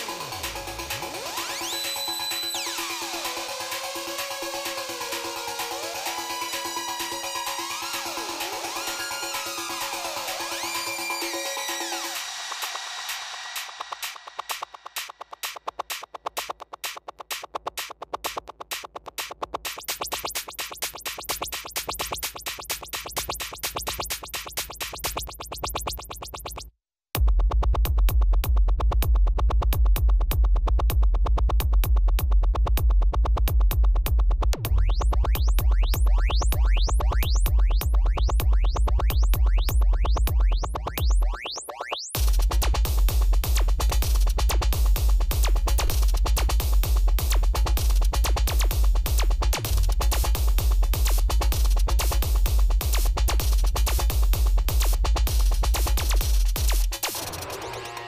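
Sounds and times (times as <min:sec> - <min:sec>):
electronic dance music: 0:00.0 - 0:26.7, 0:34.6 - 0:58.0.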